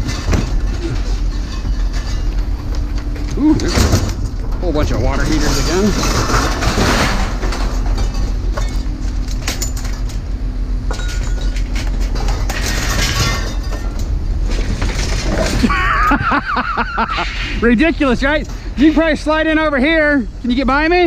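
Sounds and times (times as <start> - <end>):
scrap metal clanking and crashing: 0.0 - 16.4, 17.0 - 19.4
vehicle engine rumbling: 0.0 - 21.0.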